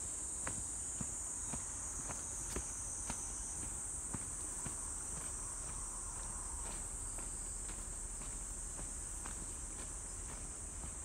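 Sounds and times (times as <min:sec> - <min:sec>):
high-pitched insect chorus: 0:00.0 - 0:11.0
walking footsteps: 0:00.4 - 0:11.0.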